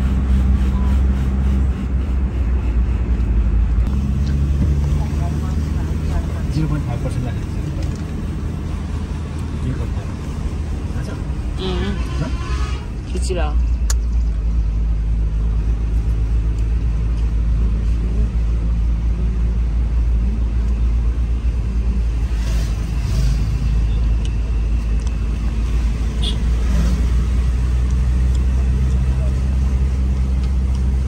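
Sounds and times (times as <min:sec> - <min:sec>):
car cabin engine and road noise: 0:00.0 - 0:31.0.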